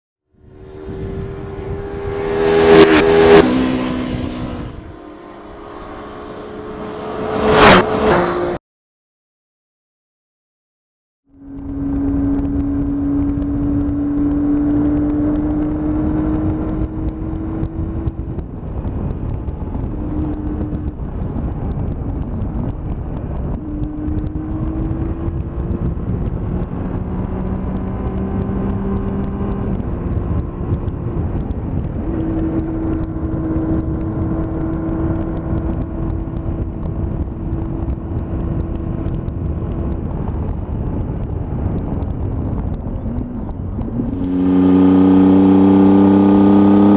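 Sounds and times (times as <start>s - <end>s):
motorcycle engine running: 0.4s - 8.1s, 11.3s - 46.9s
wind rush: 0.4s - 8.6s, 11.3s - 46.9s.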